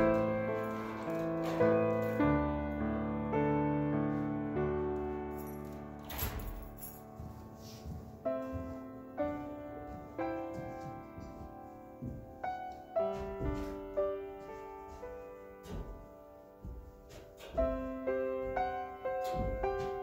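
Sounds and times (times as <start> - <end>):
slow solo piano: 0.0 - 20.0.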